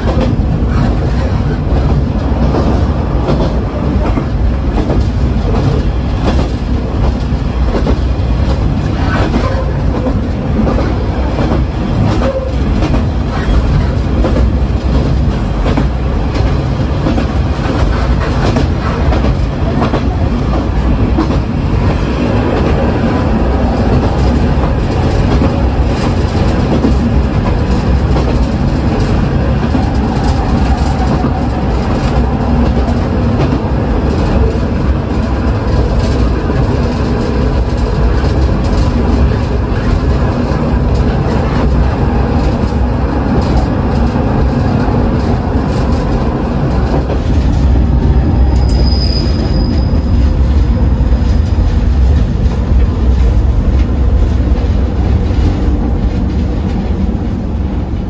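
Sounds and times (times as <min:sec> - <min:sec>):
diesel railcar rumbling: 0:00.0 - 0:58.0.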